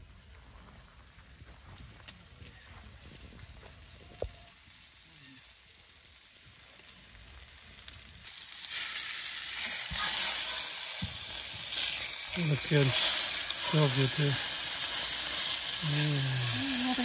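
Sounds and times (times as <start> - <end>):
chicken sizzling in oil: 2.5 - 17.0.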